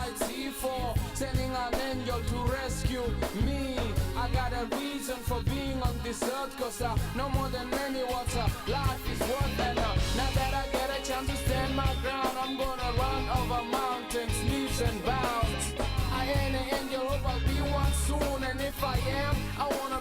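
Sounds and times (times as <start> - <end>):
upbeat song with drums and bass: 0.0 - 20.0.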